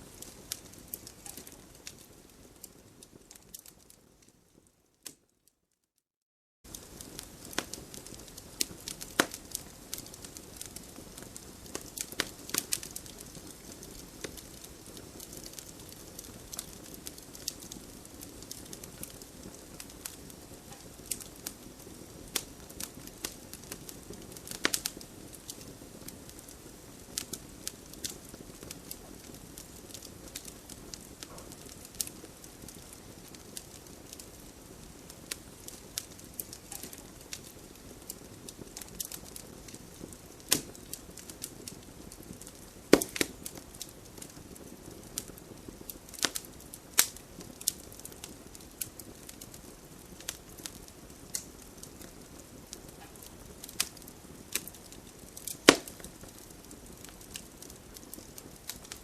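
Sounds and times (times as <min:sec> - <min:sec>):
campfire crackling and popping: 0:00.0 - 0:05.2, 0:06.7 - 0:59.0.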